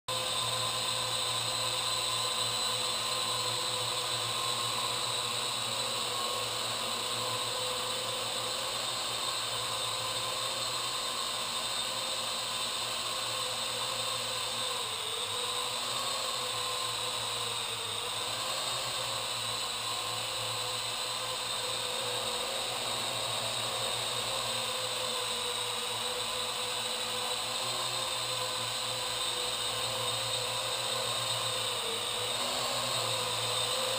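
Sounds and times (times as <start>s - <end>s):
quadcopter propellers whirring: 0.1s - 33.9s.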